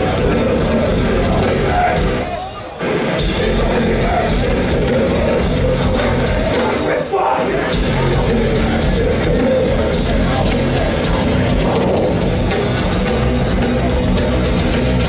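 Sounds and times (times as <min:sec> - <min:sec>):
shouted vocals: 0:00.0 - 0:12.3
distorted electric guitar: 0:00.0 - 0:15.0
drum kit: 0:00.0 - 0:15.0.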